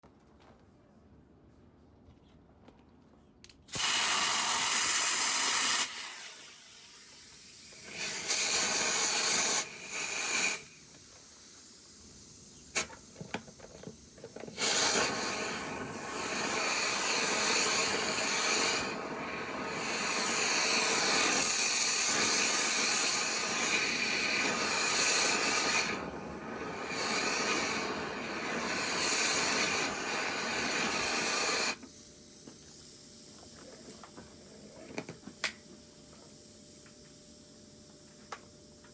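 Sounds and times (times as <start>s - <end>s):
rush of air in dryer vent: 3.7s - 34.9s.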